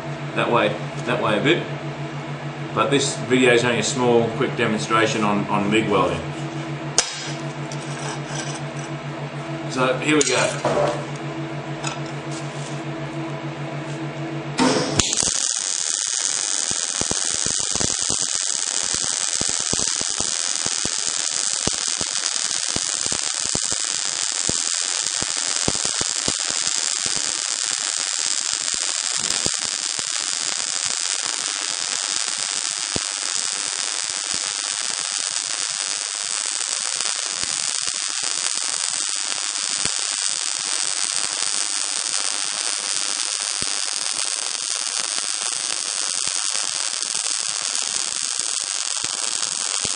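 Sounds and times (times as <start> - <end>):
welding arc crackling sizzle: 4.9 - 49.9.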